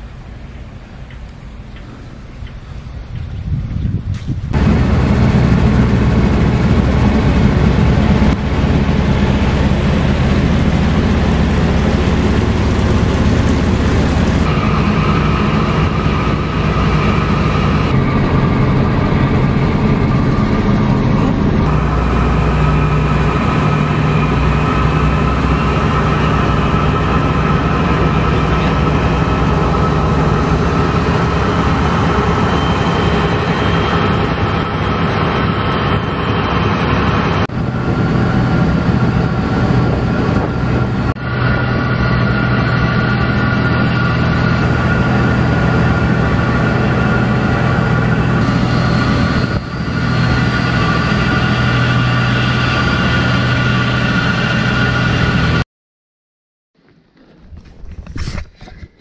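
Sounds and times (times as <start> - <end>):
wind noise: 1.3 - 55.6, 57.2 - 59.0
water noise: 4.4 - 55.6
boat engine running: 4.5 - 55.6.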